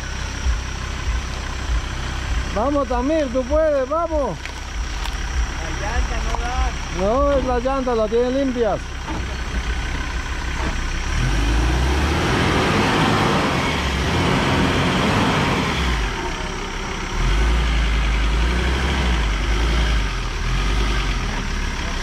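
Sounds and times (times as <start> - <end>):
engine working hard: 0.0 - 22.0.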